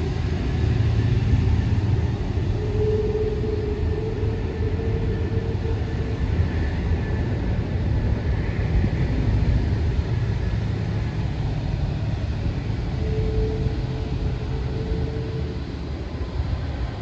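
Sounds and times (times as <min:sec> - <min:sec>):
faint engine whine: 0:00.0 - 0:17.0
jet engines rumbling: 0:00.0 - 0:17.0.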